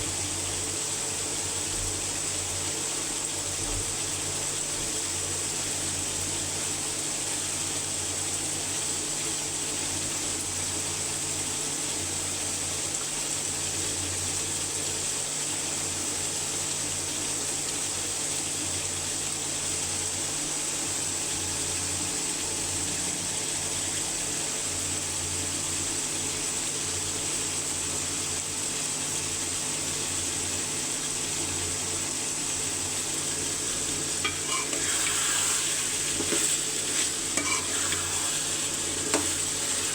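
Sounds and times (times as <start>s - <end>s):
curry cooking in a pot: 0.0s - 39.9s.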